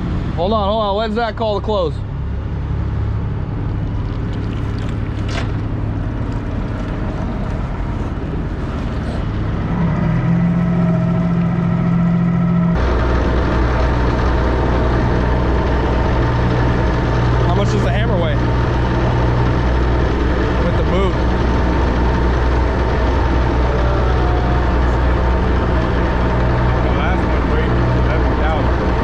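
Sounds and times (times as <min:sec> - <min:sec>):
heavy diesel machinery running: 0:00.0 - 0:29.0
droning tone: 0:02.1 - 0:29.0.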